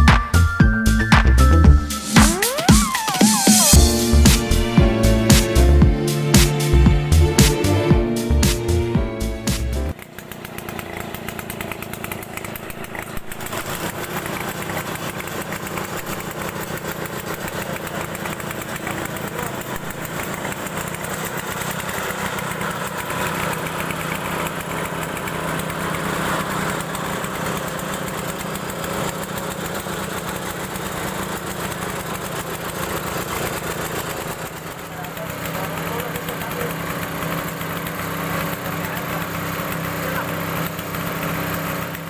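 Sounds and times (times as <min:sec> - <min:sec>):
small engine humming: 0:00.0 - 0:42.0.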